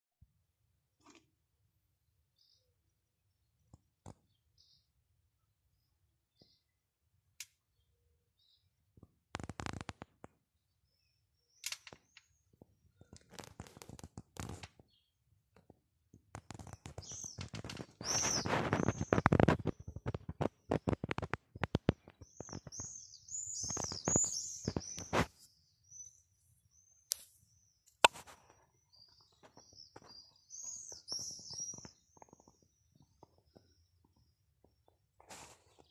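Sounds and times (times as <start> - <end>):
small birds chirping: 2.0 - 35.9.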